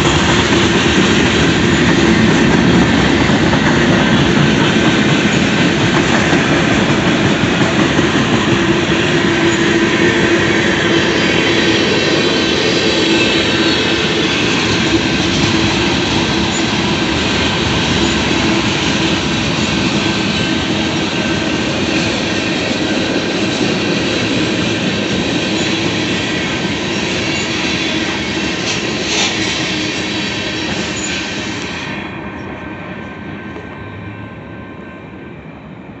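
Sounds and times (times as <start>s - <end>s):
wheels squealing: 0.0s - 32.5s
freight cars rolling on rails: 0.0s - 33.8s.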